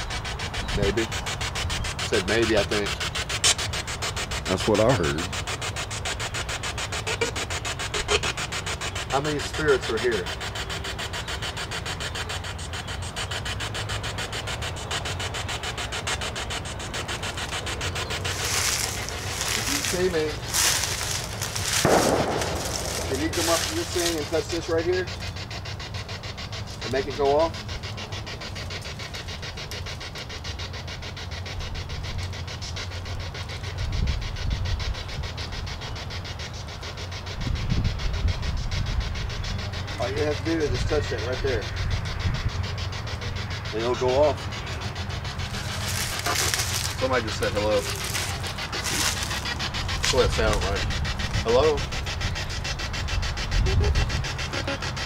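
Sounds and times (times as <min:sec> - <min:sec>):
pulsing radio static: 0:00.0 - 0:34.6, 0:35.4 - 0:55.0.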